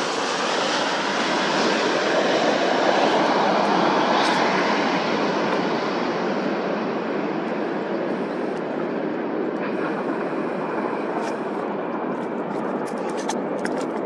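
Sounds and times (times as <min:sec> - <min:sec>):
jet engines rushing: 0:00.0 - 0:14.0.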